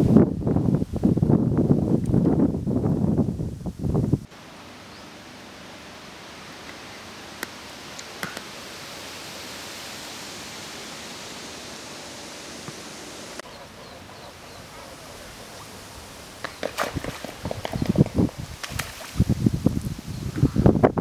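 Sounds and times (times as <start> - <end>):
breeze over rippling water: 0.0 - 21.0.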